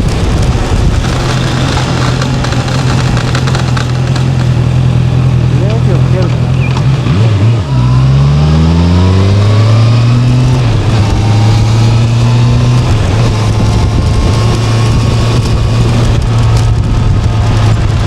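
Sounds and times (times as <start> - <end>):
motorcycle engine pulling away: 0.0 - 18.0.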